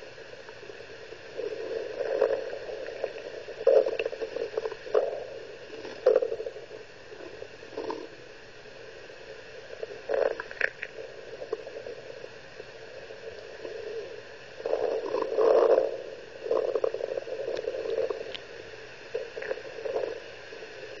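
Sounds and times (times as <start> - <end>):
steady hiss: 0.0 - 21.0
stomach gurgling: 0.2 - 8.4, 9.0 - 21.0.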